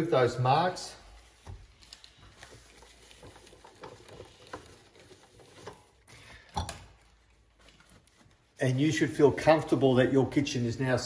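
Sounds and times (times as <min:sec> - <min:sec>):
paper towel rubbing: 0:00.0 - 0:06.2, 0:07.1 - 0:11.0.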